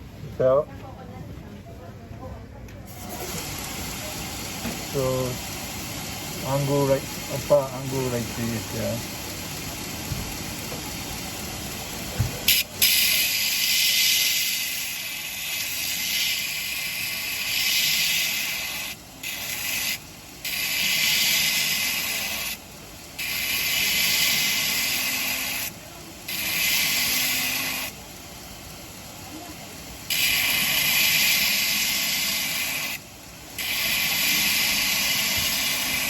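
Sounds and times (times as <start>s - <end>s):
belt grinder running: 2.9s - 36.0s
steel hissing on grinder belt: 2.9s - 36.0s.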